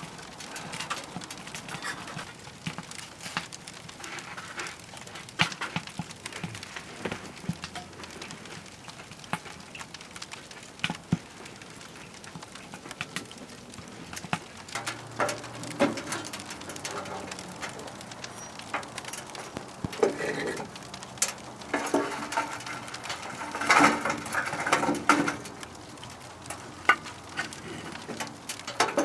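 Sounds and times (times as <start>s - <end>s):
fire popping: 0.0s - 29.0s
wood fire crackling: 0.0s - 29.0s.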